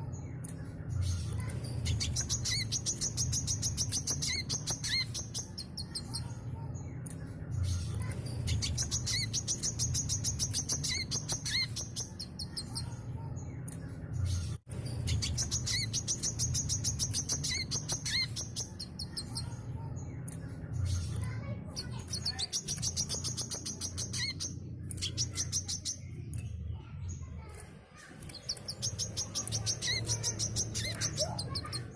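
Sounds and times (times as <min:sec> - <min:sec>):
bird singing fast chattering notes: 0:01.0 - 0:06.4, 0:07.6 - 0:13.5, 0:14.3 - 0:31.9.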